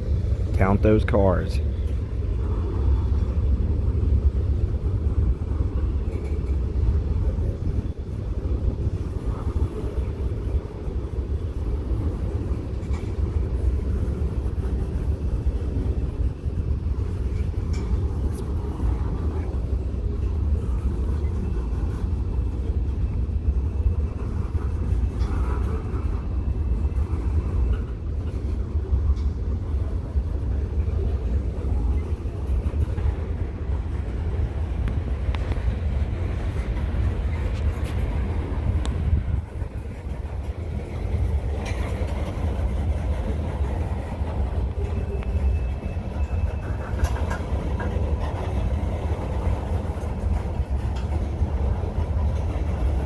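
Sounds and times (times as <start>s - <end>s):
freight train rolling past: 0.0s - 53.0s.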